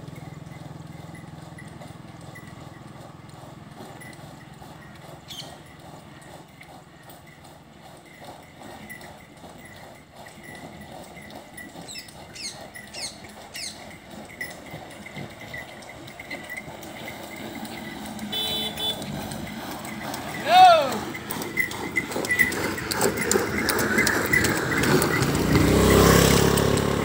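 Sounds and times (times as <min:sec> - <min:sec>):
hooves clopping on tarmac: 0:00.0 - 0:27.0.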